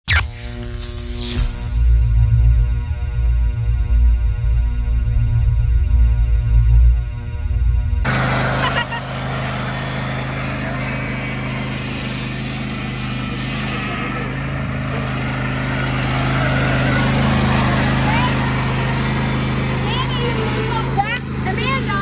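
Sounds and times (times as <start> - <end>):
riding lawn mower engine: 1.1 - 22.0.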